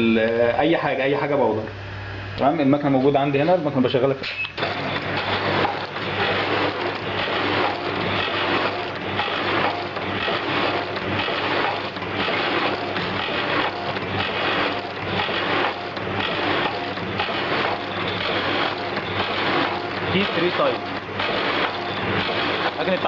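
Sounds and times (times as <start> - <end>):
steady motor hum: 0.0 - 23.0
packaging machine cycling: 4.3 - 23.0.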